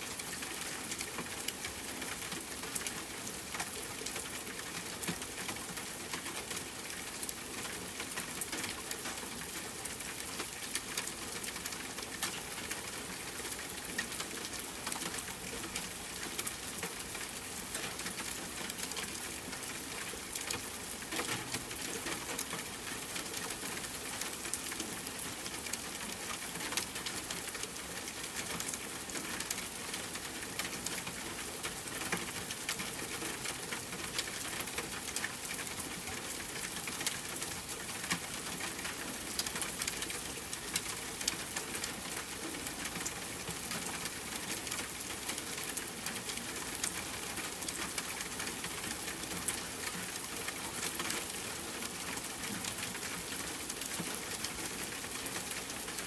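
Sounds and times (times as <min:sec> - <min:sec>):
steady rain hiss: 0:00.0 - 0:56.0
raindrops ticking on hard surface: 0:00.2 - 0:56.0.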